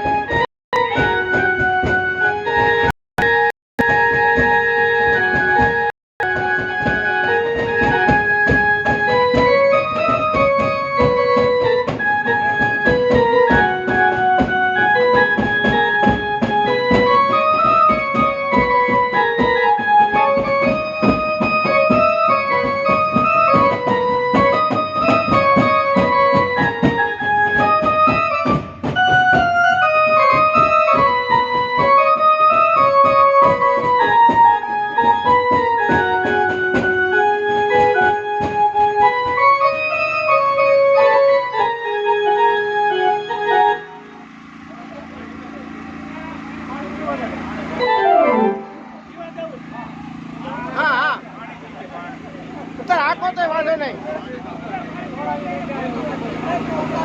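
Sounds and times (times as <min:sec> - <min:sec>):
percussion beat: 0:00.0 - 0:41.7, 0:42.6 - 0:57.0
electronic keyboard melody: 0:00.0 - 0:57.0.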